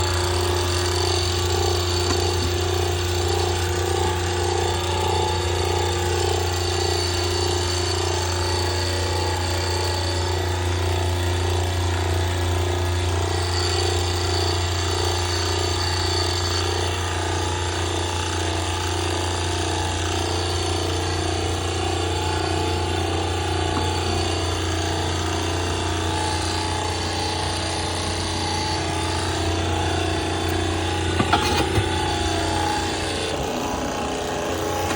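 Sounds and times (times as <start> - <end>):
hydraulic rig humming and whining: 0.0 - 34.9.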